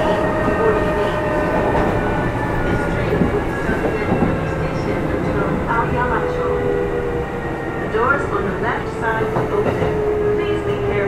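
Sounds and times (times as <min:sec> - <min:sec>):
electric train drive hum: 0:00.0 - 0:11.0
train wheels rumbling on rails: 0:00.0 - 0:11.0.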